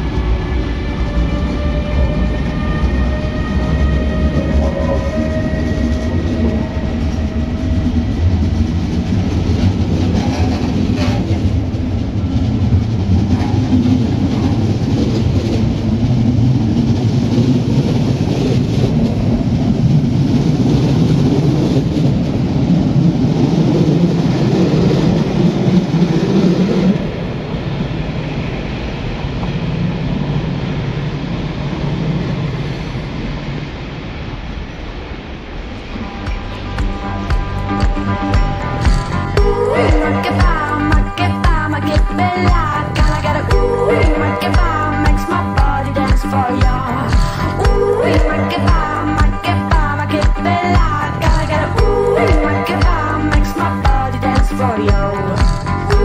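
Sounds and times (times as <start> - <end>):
high rising whine: 0.0 - 56.0
train rumbling on rails: 0.0 - 56.0.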